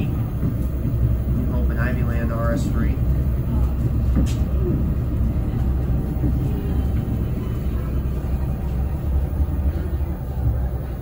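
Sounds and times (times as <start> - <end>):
train car rumbling on track: 0.0 - 11.0.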